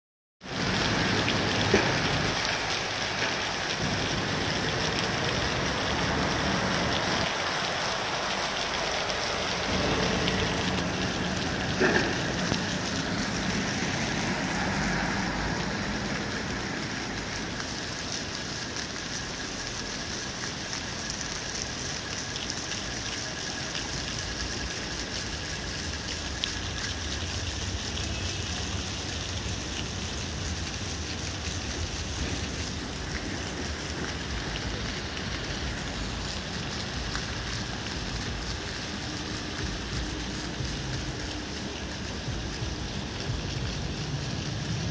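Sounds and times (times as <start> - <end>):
street and building site noise: 0.4 - 44.9.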